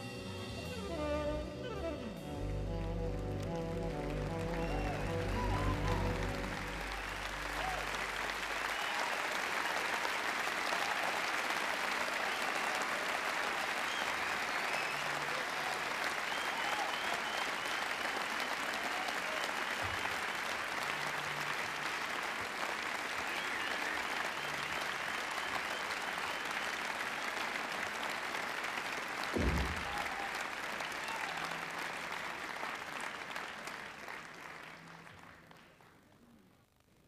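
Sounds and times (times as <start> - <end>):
audience applauding: 2.4 - 36.4.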